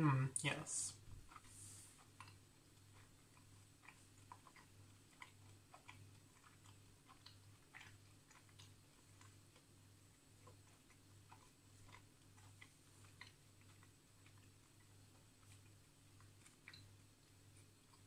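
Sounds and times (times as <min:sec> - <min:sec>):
quiet chewing: 0:00.9 - 0:18.0
wet mouth clicks: 0:01.2 - 0:09.7, 0:10.4 - 0:18.0.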